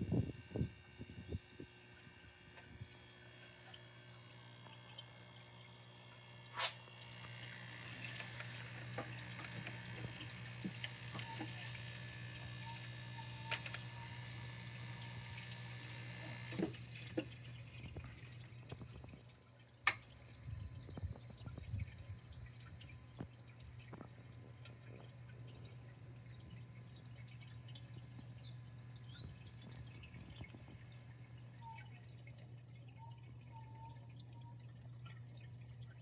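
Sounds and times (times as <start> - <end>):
water trickling into pond: 0.0 - 36.0
sharp water drips: 1.8 - 36.0.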